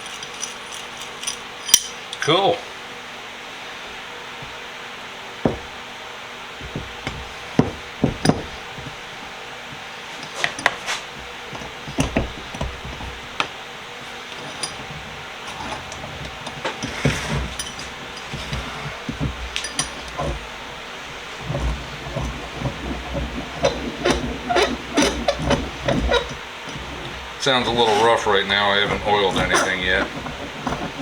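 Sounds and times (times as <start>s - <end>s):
metal clinks and knocks: 0.0s - 2.3s, 6.6s - 9.1s, 10.2s - 13.6s, 14.2s - 31.0s
steady background hiss: 0.0s - 31.0s.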